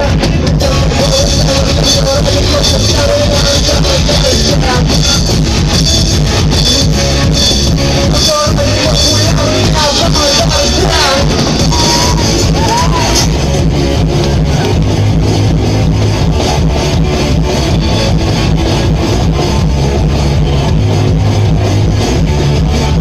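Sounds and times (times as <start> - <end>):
electric guitars: 0.0 - 23.0
fast drum beat: 0.0 - 23.0.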